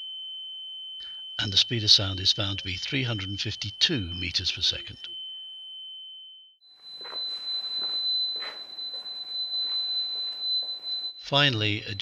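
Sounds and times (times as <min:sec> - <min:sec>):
steady pure tone: 0:01.0 - 0:05.5, 0:06.8 - 0:12.0.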